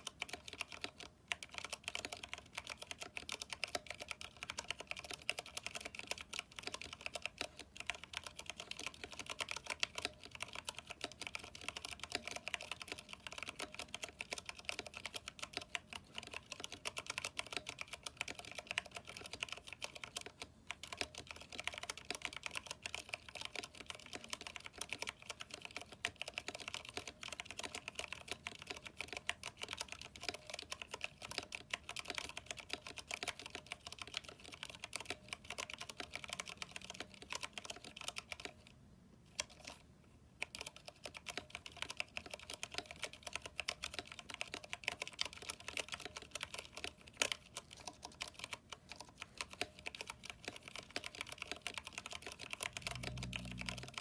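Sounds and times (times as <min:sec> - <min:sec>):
mechanical keyboard typing: 0:00.0 - 0:38.7, 0:39.4 - 0:39.8, 0:40.4 - 0:54.0.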